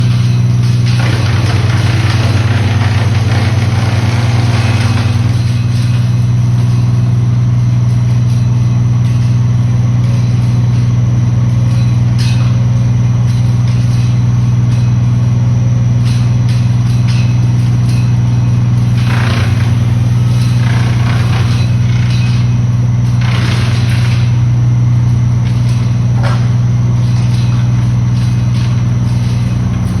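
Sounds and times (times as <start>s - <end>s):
machine engine running steadily: 0.0s - 30.0s.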